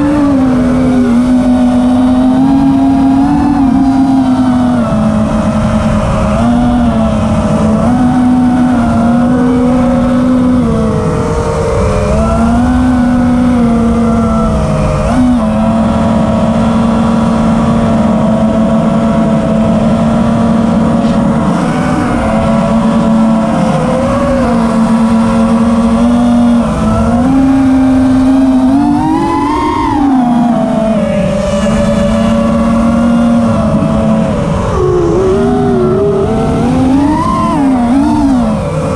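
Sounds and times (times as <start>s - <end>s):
drone motors and propellers whining: 0.0s - 38.9s
low wind rumble: 0.0s - 38.9s.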